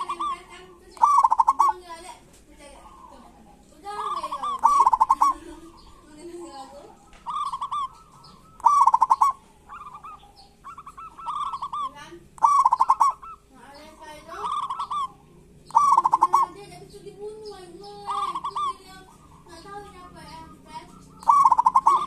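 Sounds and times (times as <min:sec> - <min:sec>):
doves rattling calls: 0:00.0 - 0:22.0
soft cooing and chirps: 0:00.0 - 0:22.0.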